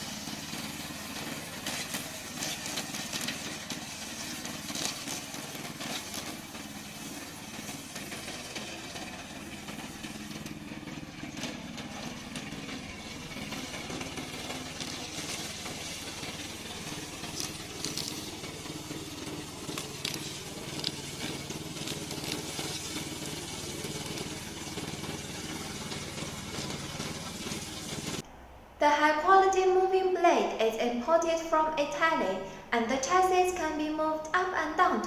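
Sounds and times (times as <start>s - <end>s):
mower engine running: 0.0s - 28.2s.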